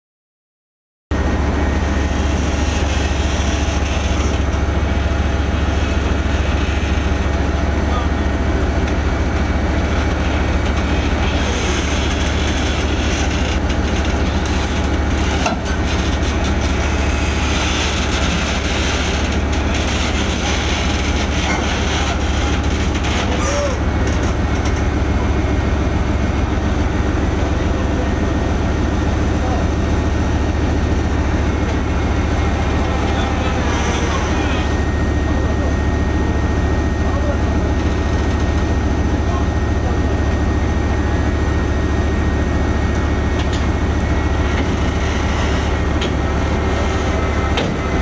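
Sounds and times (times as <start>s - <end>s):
diesel engine idling: 1.1s - 48.0s.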